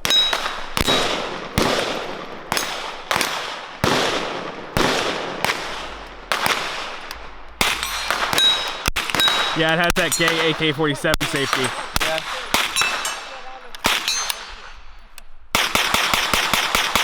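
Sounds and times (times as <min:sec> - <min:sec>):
gunshots with echoing tail: 0:00.0 - 0:17.0.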